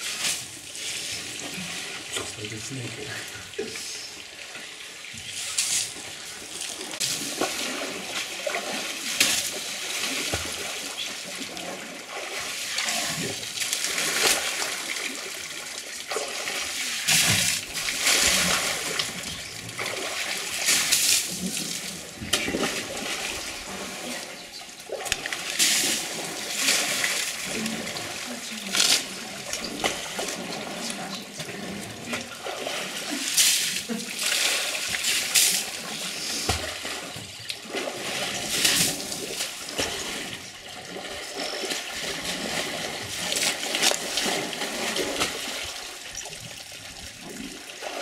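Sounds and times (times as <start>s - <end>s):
water splashing and pouring: 0.0s - 48.0s.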